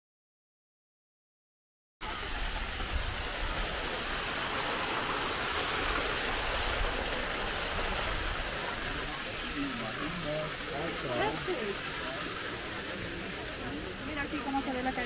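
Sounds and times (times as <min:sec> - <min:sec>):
waterfall roaring: 0:02.0 - 0:15.0.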